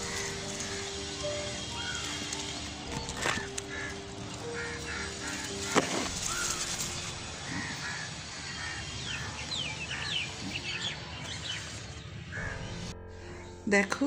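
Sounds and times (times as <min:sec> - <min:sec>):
birds calling: 0:00.0 - 0:13.6.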